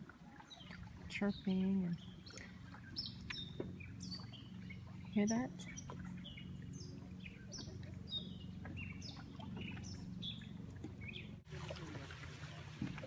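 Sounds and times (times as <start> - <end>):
birds chirping: 0.3 - 12.0.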